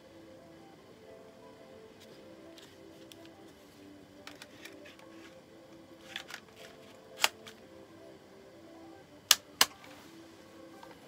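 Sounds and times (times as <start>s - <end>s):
faint electronic music: 0.0s - 11.0s.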